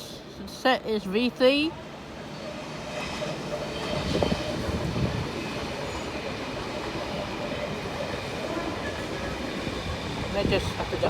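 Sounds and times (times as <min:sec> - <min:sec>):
train wheels rumbling on rail: 0:00.8 - 0:11.0.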